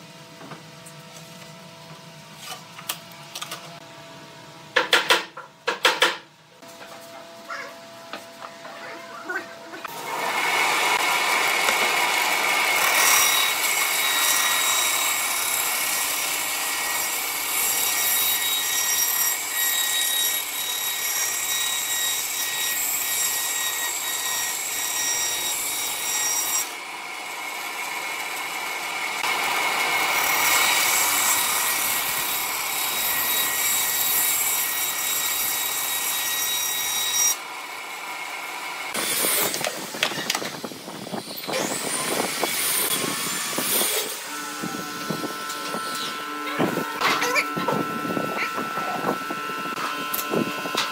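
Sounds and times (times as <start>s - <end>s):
bandsaw machine whine: 9.1s - 50.9s.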